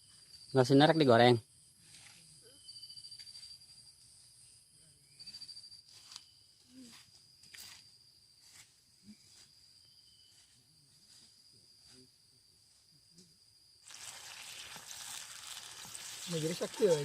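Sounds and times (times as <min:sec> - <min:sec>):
insects buzzing: 0:00.0 - 0:17.0
pulsed insect trill: 0:00.0 - 0:17.0.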